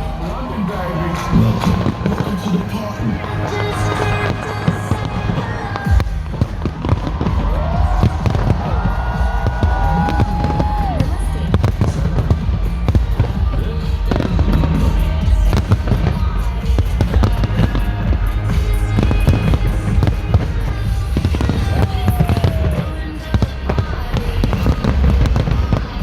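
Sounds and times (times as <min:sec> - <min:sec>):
fireworks bangs: 0:00.0 - 0:26.0
music with heavy bass: 0:00.0 - 0:26.0.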